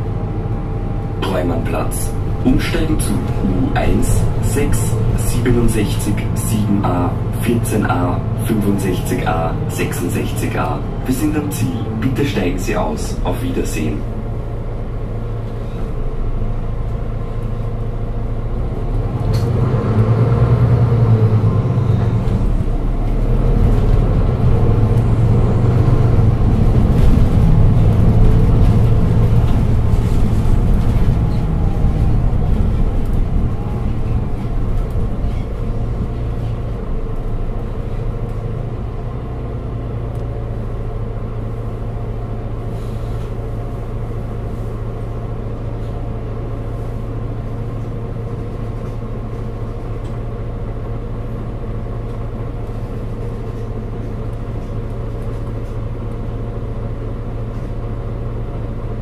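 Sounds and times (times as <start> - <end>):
bus engine droning: 0.0 - 59.0.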